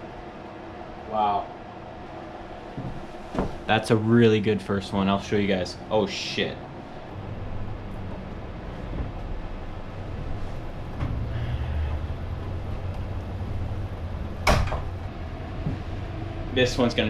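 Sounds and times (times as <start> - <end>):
low mechanical rumble with hum: 0.0 - 17.0.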